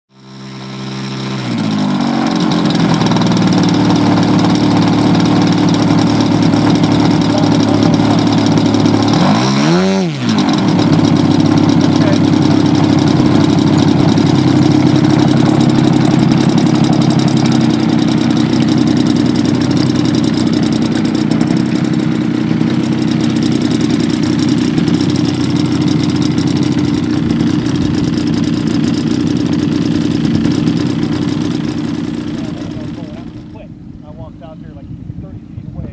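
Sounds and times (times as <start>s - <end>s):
model airplane engine running: 0.1s - 35.0s.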